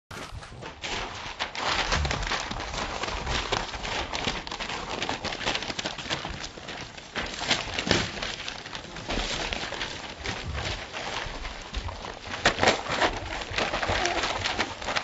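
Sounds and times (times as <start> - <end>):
newspaper crinkling under puppy paws: 0.1 - 15.0.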